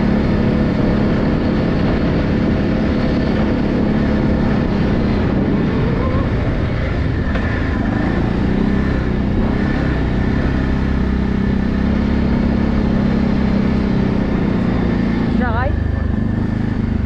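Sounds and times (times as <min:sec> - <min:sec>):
atv engine running: 0:00.0 - 0:17.0
rush of riding noise: 0:00.0 - 0:17.0.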